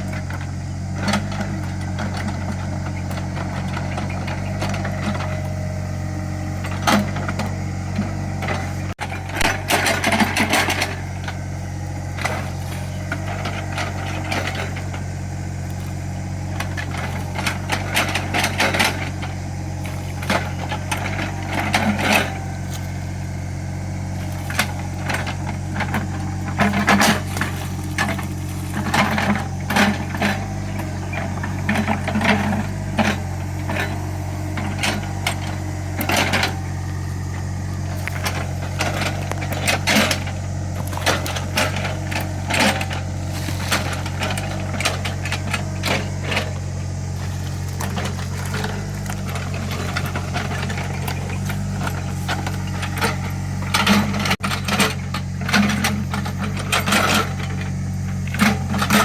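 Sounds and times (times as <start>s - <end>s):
clanking and scraping of digging: 0.0s - 59.0s
excavator diesel engine running: 0.0s - 59.0s.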